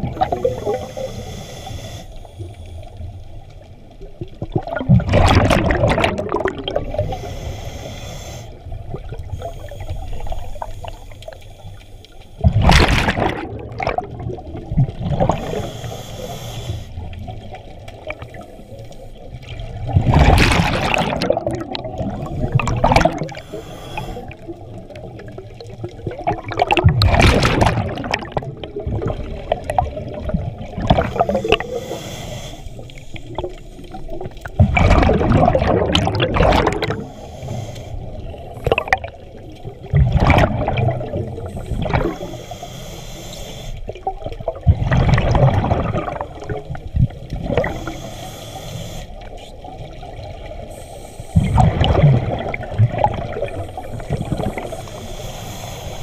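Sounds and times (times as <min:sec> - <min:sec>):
exhaled bubbles rushing underwater: 0:00.0 - 0:01.4, 0:02.4 - 0:07.5, 0:08.5 - 0:11.5, 0:12.4 - 0:16.0, 0:17.0 - 0:32.0, 0:32.7 - 0:42.5, 0:43.8 - 0:48.3, 0:49.2 - 0:56.0.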